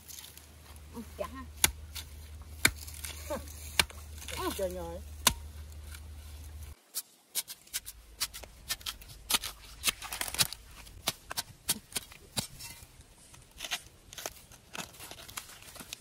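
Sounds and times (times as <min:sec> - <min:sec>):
knife peeling bamboo shoot: 0:01.4 - 0:16.0.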